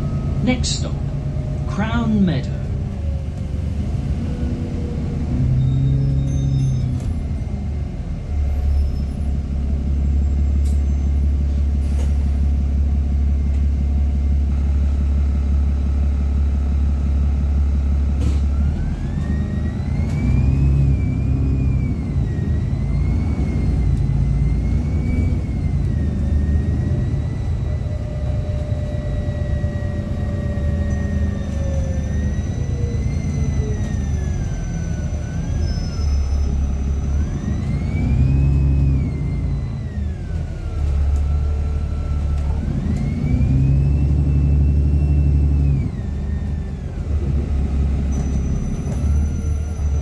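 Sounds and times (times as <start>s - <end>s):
bus engine droning: 0.0s - 50.0s
bus engine whine rising: 0.0s - 50.0s.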